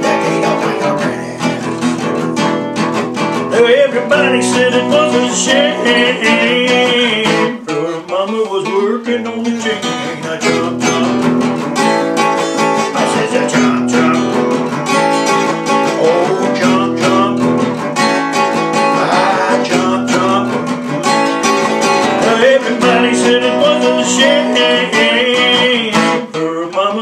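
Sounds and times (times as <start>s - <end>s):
acoustic guitars strumming: 0.0s - 27.0s.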